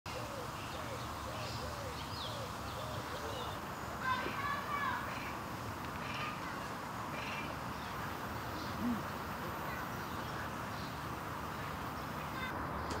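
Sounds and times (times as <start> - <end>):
faint bird calls: 0.1 - 13.0
outdoor background noise: 0.1 - 13.0.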